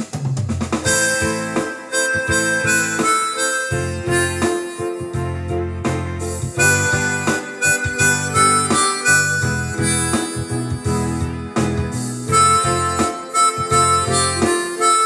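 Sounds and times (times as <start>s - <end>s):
sustained melody over bass: 0.9s - 15.0s.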